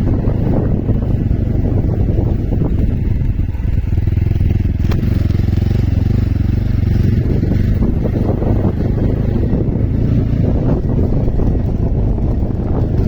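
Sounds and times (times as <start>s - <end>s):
motorcycle engine rumbling: 0.0s - 13.0s
wind buffeting microphone: 0.0s - 13.0s.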